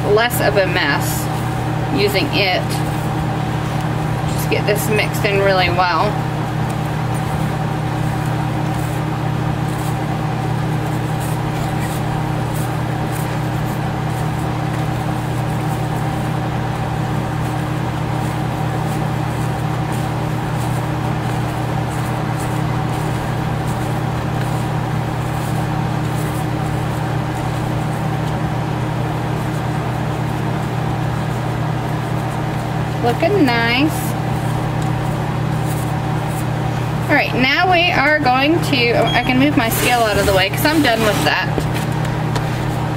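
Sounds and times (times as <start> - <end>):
low machine hum: 0.0 - 42.9
wire whisk stirring dry powder: 4.0 - 37.1, 39.2 - 41.5.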